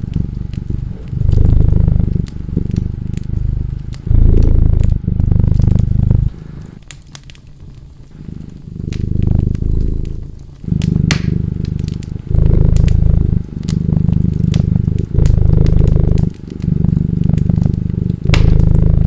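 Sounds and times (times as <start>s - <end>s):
cat purring: 0.0s - 19.0s
fire crackling and popping: 0.0s - 19.0s.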